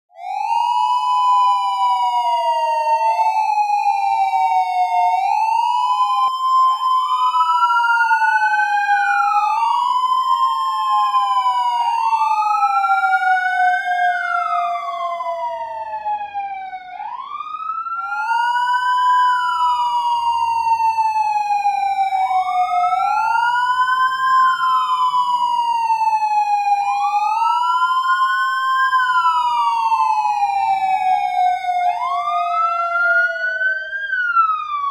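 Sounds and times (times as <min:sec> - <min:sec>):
police sirens wailing: 0:00.1 - 0:34.9.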